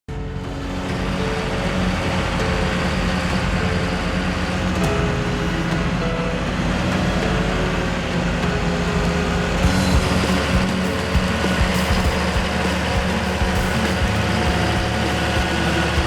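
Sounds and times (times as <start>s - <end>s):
tractor diesel engine under load: 0.5s - 16.0s.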